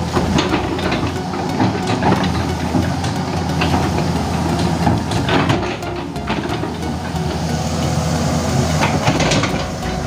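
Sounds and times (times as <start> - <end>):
excavator diesel engine under load: 0.0 - 10.0.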